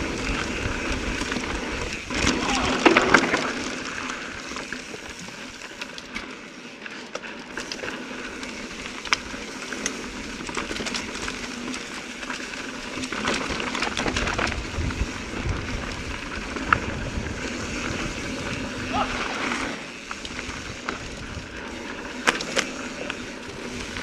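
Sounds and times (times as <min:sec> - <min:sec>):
bike clicking and rattling: 0:00.0 - 0:24.0.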